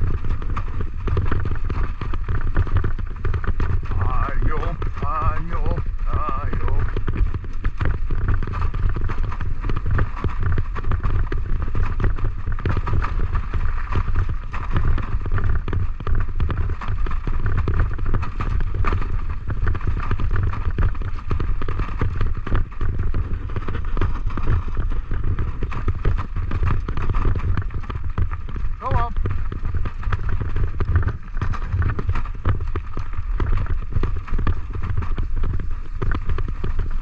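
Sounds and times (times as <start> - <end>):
cart rumbling over rough ground: 0.0 - 37.0
wind buffeting microphone: 0.0 - 37.0.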